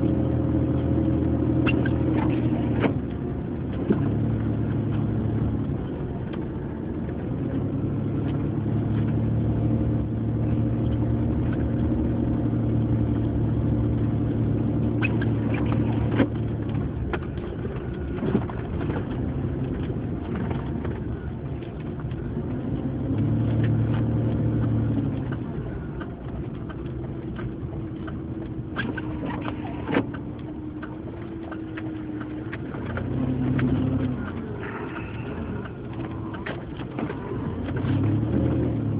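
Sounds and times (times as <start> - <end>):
car engine humming: 0.0 - 38.9.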